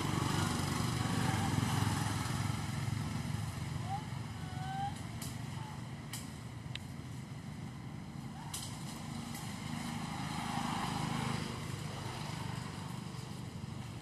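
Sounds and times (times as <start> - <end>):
distant engine hum: 0.0 - 14.0.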